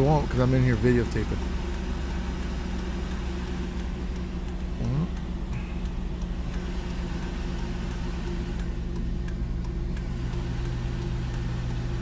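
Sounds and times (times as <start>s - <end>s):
engine idling inside cab: 0.0s - 12.0s
faint ticks: 0.3s - 12.0s.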